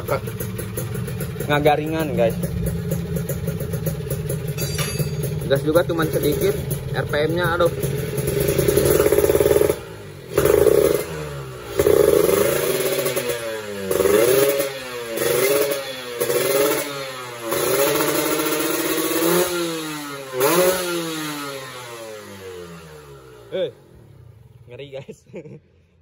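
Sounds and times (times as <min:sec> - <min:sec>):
two-stroke motorcycle engine revving: 0:00.0 - 0:24.6.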